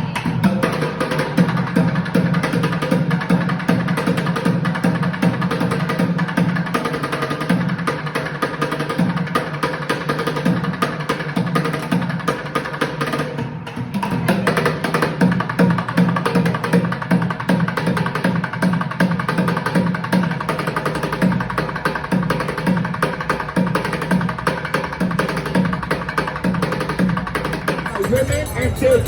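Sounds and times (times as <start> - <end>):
music with percussive beat: 0.0 - 29.0.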